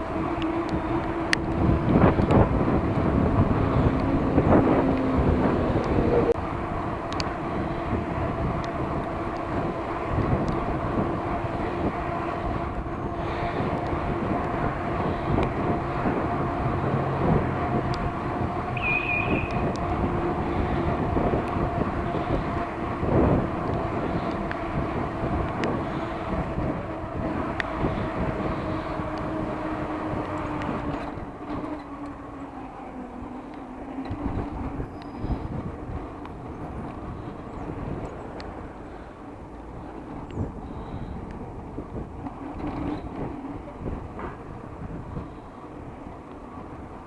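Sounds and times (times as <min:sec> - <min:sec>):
road rumble: 0:00.0 - 0:47.0
wind noise: 0:00.0 - 0:47.0.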